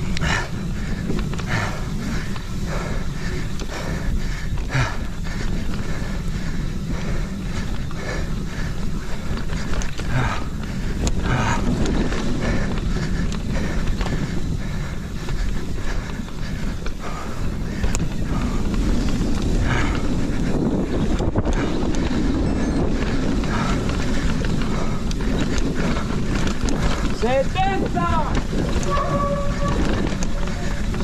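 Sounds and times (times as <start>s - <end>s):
tyres rumbling on dirt: 0.0s - 31.0s
wind rushing over microphone: 0.0s - 31.0s.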